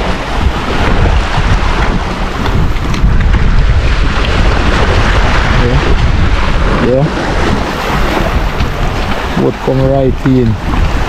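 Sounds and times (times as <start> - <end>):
sea washing: 0.0 - 11.0
wind buffeting microphone: 0.0 - 11.0.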